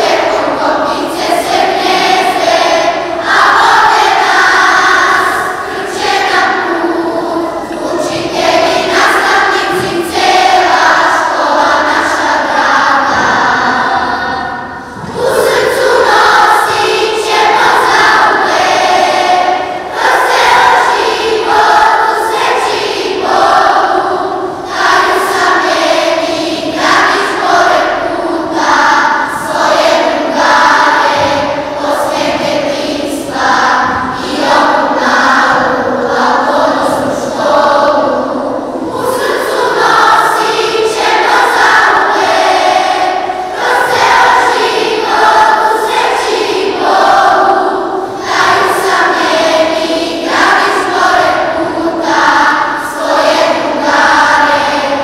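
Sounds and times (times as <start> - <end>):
children's choir singing: 0.0 - 55.0.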